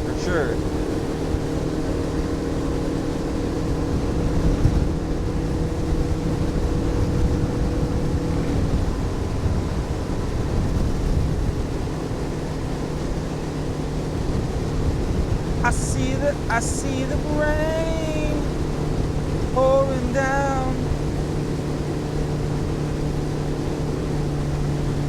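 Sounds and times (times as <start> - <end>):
water rushing under boat: 0.0 - 15.6, 18.0 - 25.0
boat motor running: 0.0 - 25.0.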